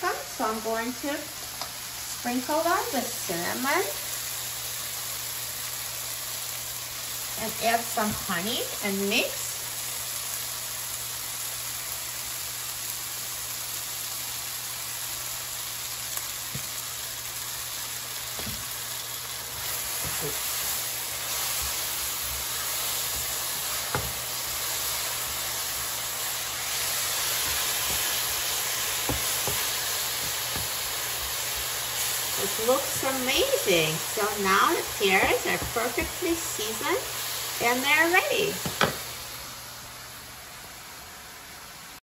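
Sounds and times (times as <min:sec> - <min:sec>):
fruit sizzling in hot oil: 0:00.0 - 0:42.0.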